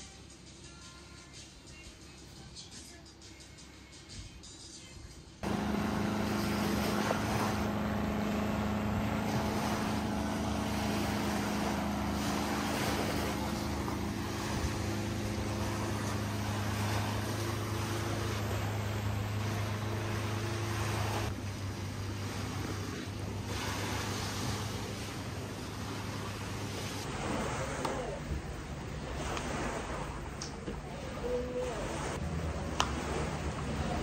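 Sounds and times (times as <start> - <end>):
boat engine humming: 5.4 - 34.0
water rushing past: 5.4 - 34.0
wind: 5.4 - 34.0.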